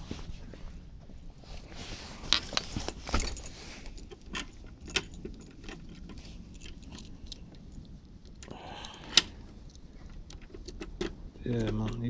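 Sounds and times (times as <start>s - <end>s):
light metallic jingling and clicking: 0.0s - 12.0s.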